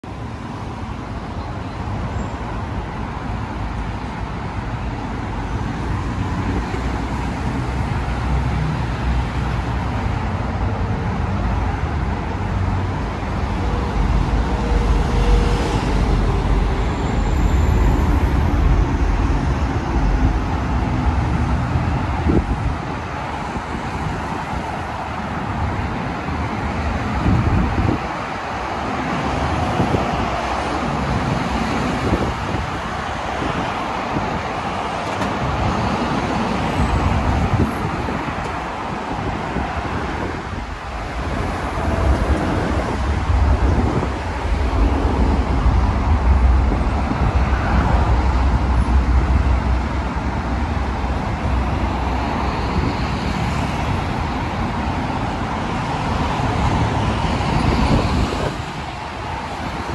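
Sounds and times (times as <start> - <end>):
highway traffic passing: 0.0 - 59.9.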